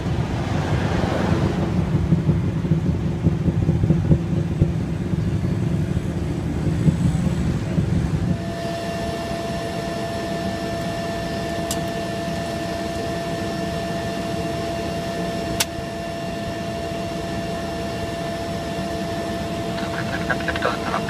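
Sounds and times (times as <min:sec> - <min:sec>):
propeller aircraft engine drone: 0:00.0 - 0:21.0
steady whine: 0:00.0 - 0:21.0.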